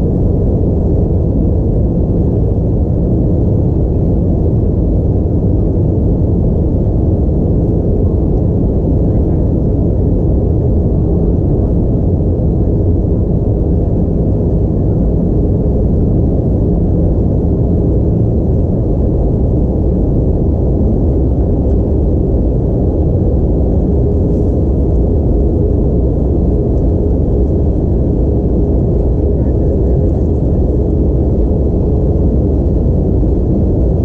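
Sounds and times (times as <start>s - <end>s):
airplane cabin drone: 0.0s - 34.0s
faint steady hum: 0.0s - 34.0s.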